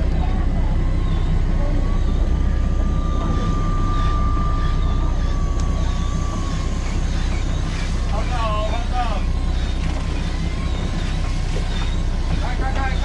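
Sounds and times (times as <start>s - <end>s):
boat engine rumble: 0.0s - 13.0s
thin steady whine: 0.0s - 13.0s.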